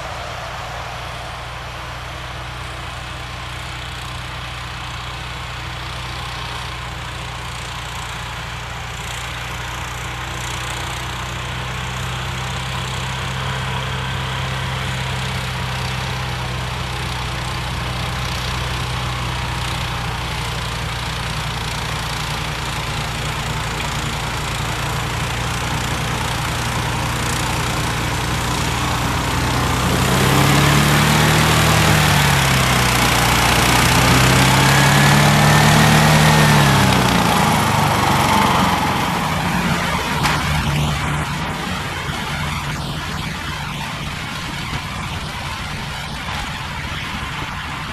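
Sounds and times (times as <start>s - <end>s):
snowblower engine running: 0.0s - 47.9s.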